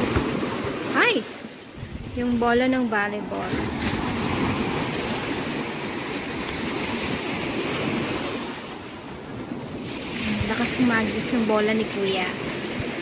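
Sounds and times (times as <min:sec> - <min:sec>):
small waves breaking on shore: 0:00.0 - 0:13.0.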